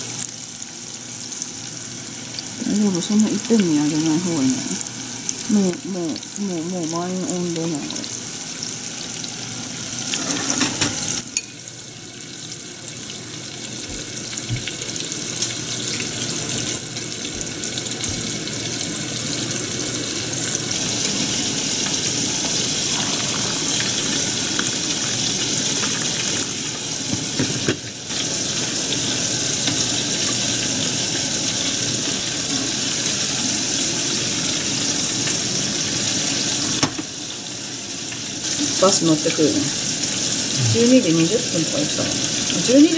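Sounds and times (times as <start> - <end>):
deep-frying oil sizzling: 0.0 - 42.9.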